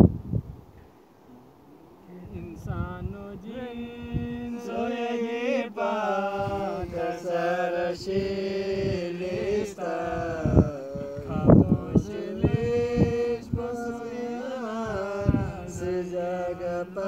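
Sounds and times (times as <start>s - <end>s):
man singing unaccompanied folk song: 1.3s - 17.0s.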